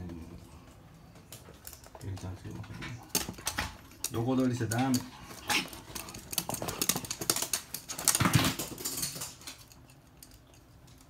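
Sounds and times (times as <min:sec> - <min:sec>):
dog claws clicking on hard floor: 0:01.1 - 0:11.0.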